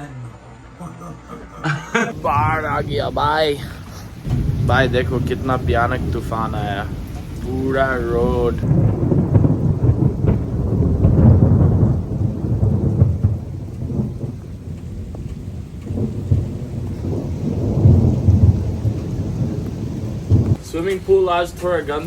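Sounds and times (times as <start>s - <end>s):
low rumble: 0.0s - 20.6s
heavy rain: 0.0s - 22.0s.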